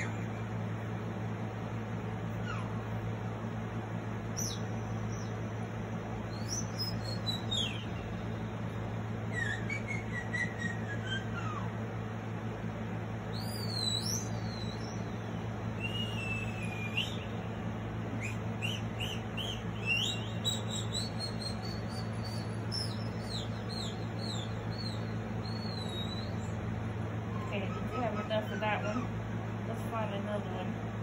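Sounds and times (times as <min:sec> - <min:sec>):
recorded birdsong through phone speaker: 0:00.0 - 0:11.9, 0:12.5 - 0:31.0
steady low hum: 0:00.0 - 0:31.0.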